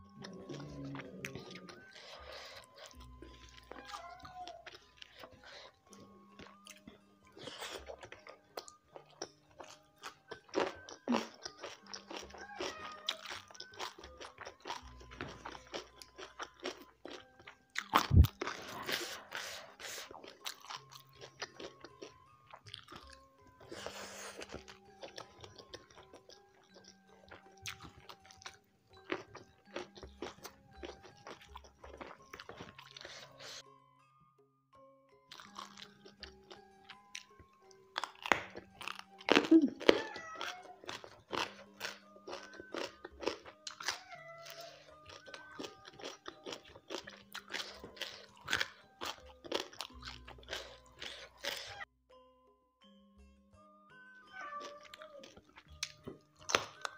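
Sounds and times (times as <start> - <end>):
soft background music: 0.0 - 56.9
crunchy bites and chewing: 4.6 - 33.6, 35.3 - 51.8, 54.6 - 56.9.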